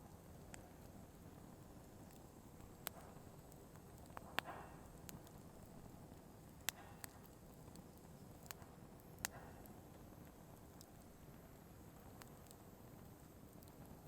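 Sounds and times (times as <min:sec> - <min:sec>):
firewood crackling and popping: 0:00.0 - 0:14.0.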